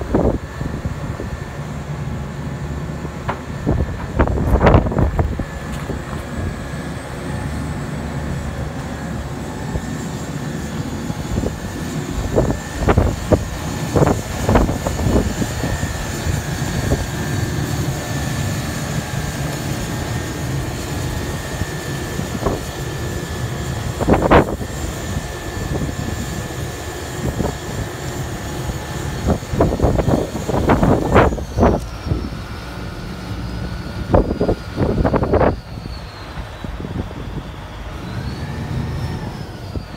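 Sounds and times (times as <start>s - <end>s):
high-pitched whine: 0.0s - 39.9s
paver diesel engine droning: 0.0s - 39.9s.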